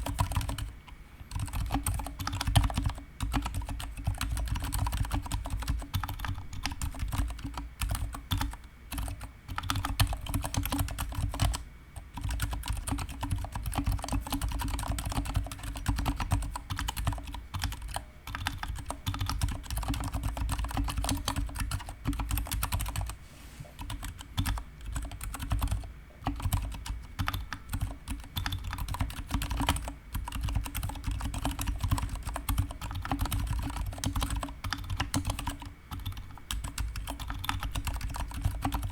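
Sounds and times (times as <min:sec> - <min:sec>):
typing on a mechanical keyboard: 0:00.0 - 0:00.7, 0:01.3 - 0:23.2, 0:23.8 - 0:38.9.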